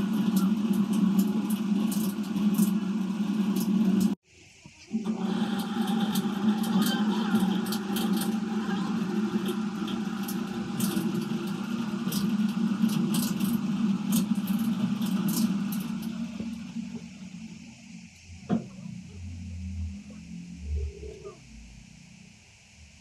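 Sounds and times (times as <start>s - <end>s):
drilling rig engine running: 0.0s - 4.2s, 4.9s - 21.4s.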